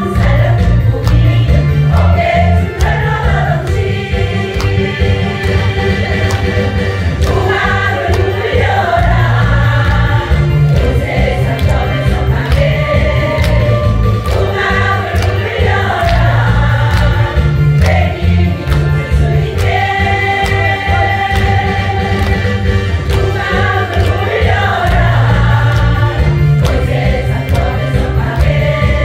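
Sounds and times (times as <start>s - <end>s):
women's choir singing: 0.0s - 29.0s.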